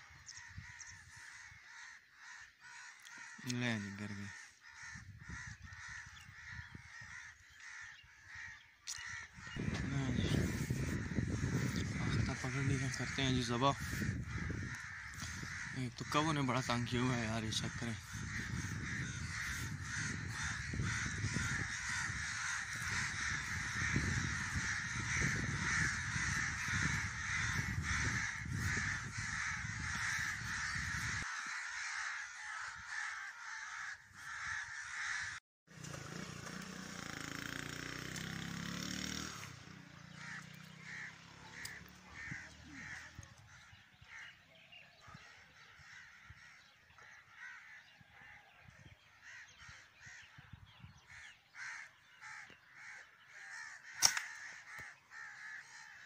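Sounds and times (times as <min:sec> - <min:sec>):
crows cawing: 0:00.0 - 0:35.4, 0:38.0 - 0:56.0.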